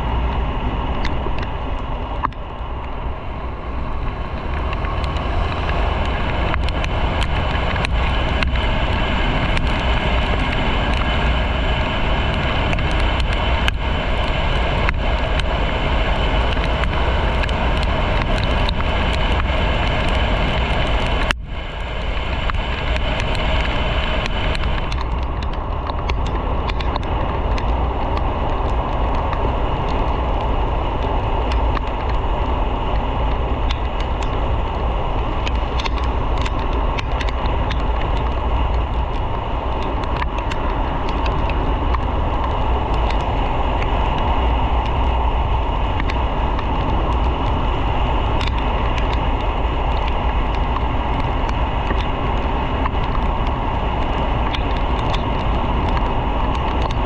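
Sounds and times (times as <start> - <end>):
road noise: 0.0 - 57.0
wind rush over microphone: 0.0 - 57.0.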